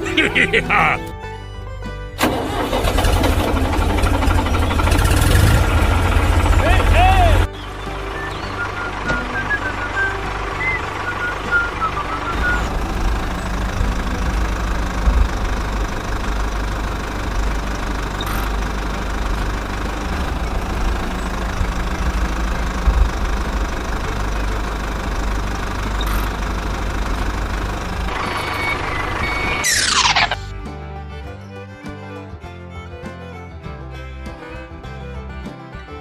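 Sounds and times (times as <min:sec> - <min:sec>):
tractor engine rumbling: 0:00.0 - 0:36.0.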